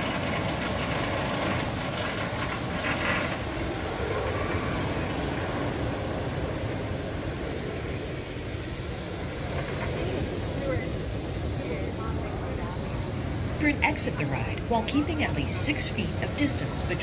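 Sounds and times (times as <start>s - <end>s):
roller coaster rushing rumble: 0.0s - 17.0s.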